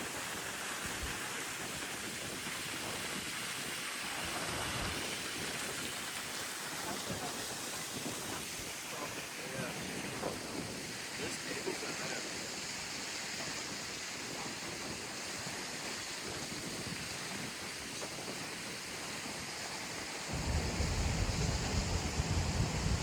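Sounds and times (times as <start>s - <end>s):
fountain water splashing: 0.0s - 23.0s
wind rumble on microphone: 0.1s - 8.8s, 9.4s - 12.7s, 13.4s - 23.0s.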